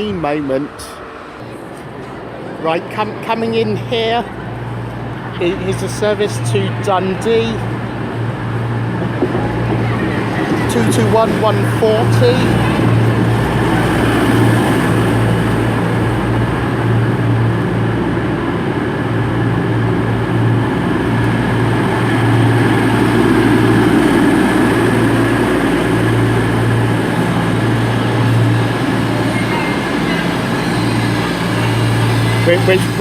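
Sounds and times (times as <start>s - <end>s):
train diesel engine droning: 3.5s - 33.0s.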